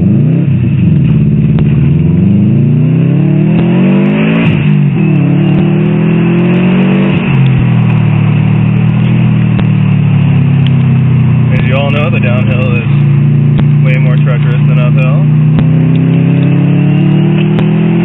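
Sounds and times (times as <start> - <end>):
car engine revving and shifting: 0.0 - 18.0.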